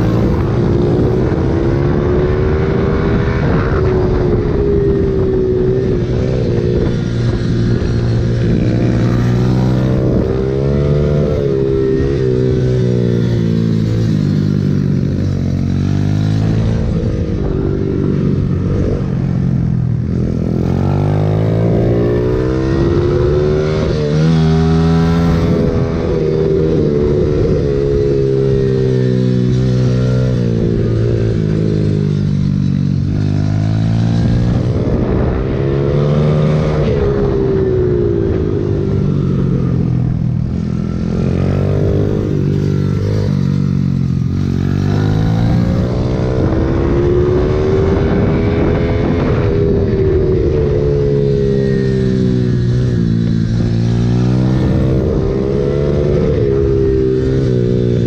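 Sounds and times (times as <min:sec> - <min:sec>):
pit bike engine revving: 0:00.0 - 0:58.0.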